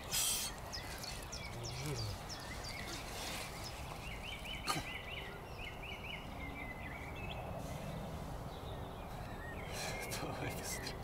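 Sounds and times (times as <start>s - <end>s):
outdoor background noise: 0.0s - 11.0s
songbird chirping: 0.0s - 11.0s.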